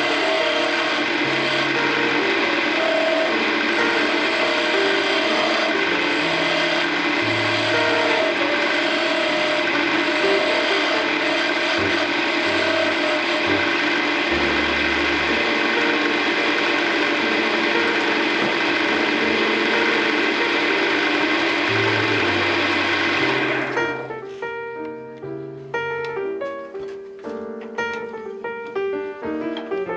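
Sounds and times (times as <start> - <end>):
wood lathe humming: 0.0 - 24.1.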